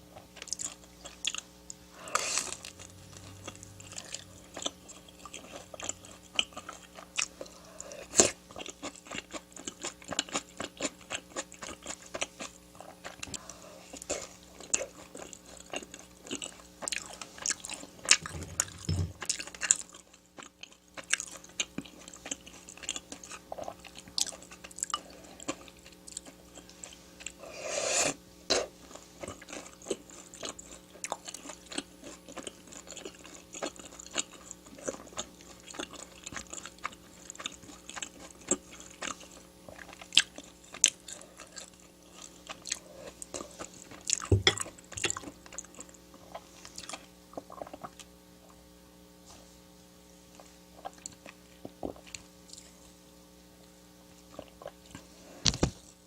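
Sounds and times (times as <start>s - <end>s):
chewing and crunching food: 0.0s - 56.0s.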